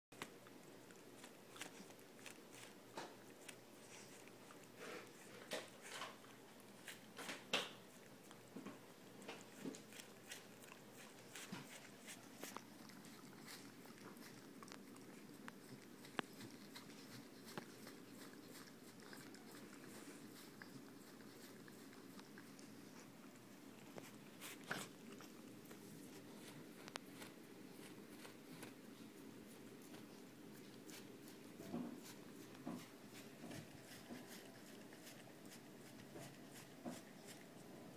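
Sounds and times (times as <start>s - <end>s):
puppy chewing and smacking: 0.2s - 37.9s.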